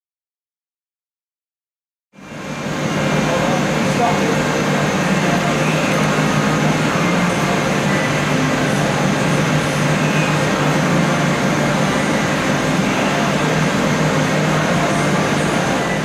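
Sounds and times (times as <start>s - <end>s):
low hum: 2.2s - 16.0s
machine shop drone: 2.2s - 16.0s.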